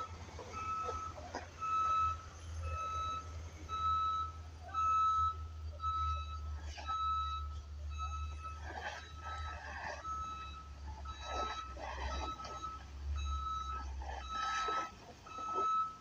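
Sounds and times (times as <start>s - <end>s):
low vehicle rumble: 0.0s - 16.0s.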